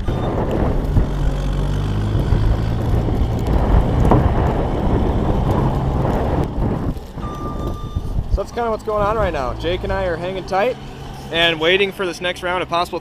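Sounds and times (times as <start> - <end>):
wind blowing across microphone: 0.0 - 11.6
vehicle engine running: 0.0 - 13.0.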